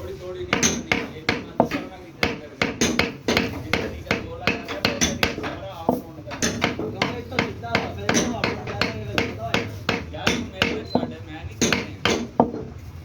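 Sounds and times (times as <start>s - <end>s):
hammer blows ringing: 0.0s - 12.8s.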